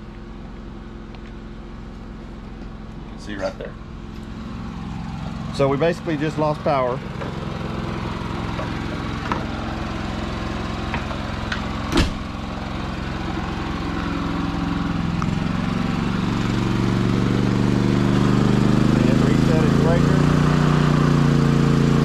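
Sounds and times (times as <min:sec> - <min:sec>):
generator engines running: 0:00.0 - 0:22.0.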